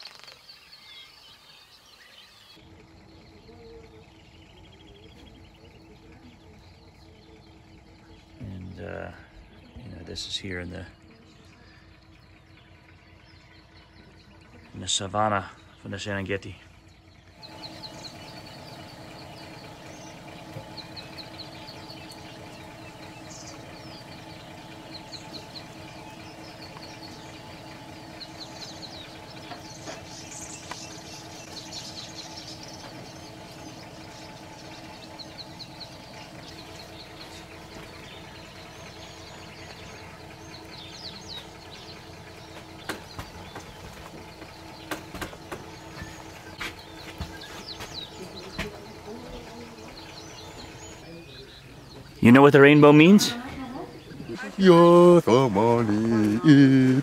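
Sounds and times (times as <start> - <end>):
engine humming: 0.0 - 57.0
small birds chirping: 0.0 - 57.0.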